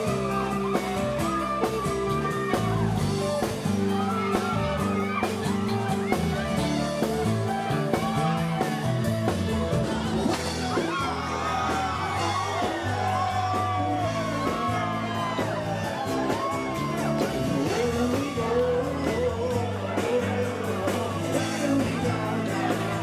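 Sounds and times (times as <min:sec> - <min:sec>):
lead vocal singing: 0:00.0 - 0:23.0
live rock band playing: 0:00.0 - 0:23.0.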